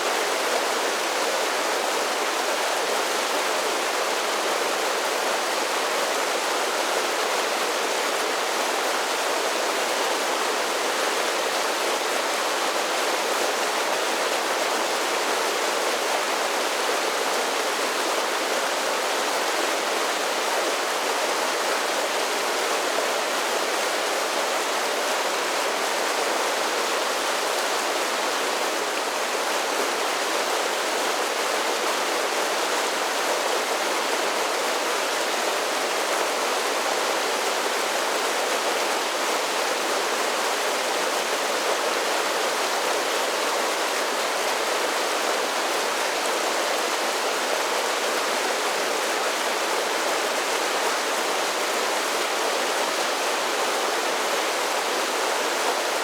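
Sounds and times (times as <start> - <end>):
creek cascading down waterfalls: 0.0 - 56.0.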